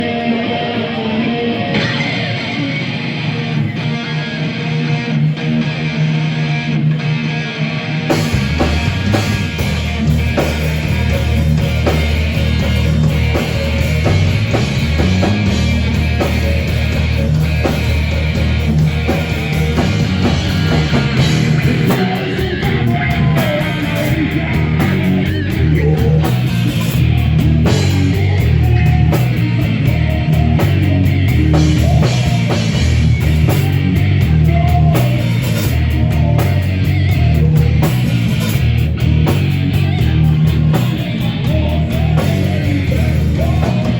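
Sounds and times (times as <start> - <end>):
rock band playing heavy music: 0.0 - 43.9.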